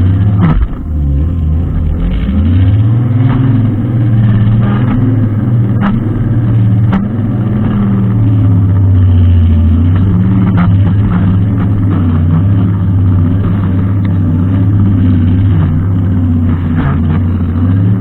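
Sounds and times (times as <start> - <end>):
brushcutter engine running: 0.0 - 18.0.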